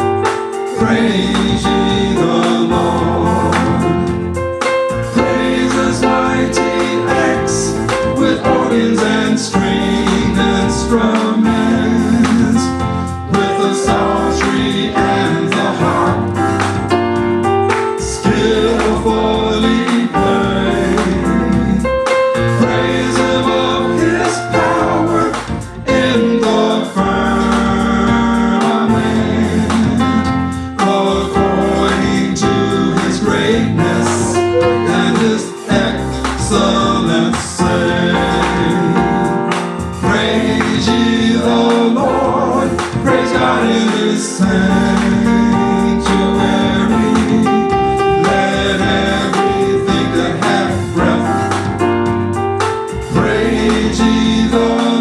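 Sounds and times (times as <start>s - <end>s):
people singing: 0.0s - 55.0s
worship band playing: 0.0s - 55.0s.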